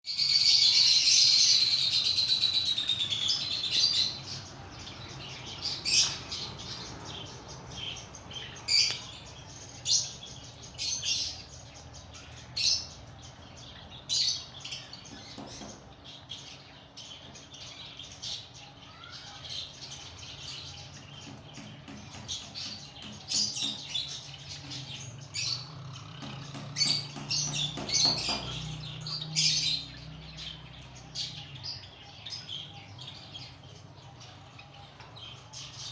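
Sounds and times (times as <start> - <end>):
parrots chattering and shrieking: 0.1 - 35.9.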